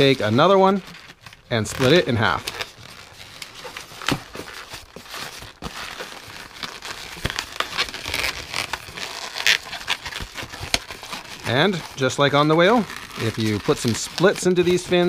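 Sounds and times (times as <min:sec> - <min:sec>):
balloon squeaking and crinkling: 0:00.0 - 0:15.0.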